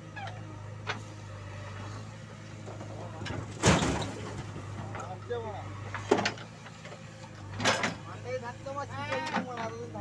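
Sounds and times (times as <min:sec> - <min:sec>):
diesel engine running under load: 0:00.0 - 0:10.0.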